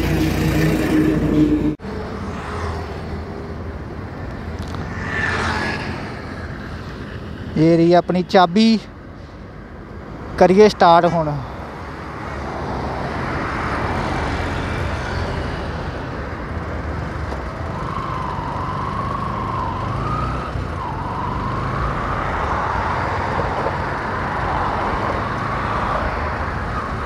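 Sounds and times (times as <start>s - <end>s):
traffic passing: 0.0s - 27.0s.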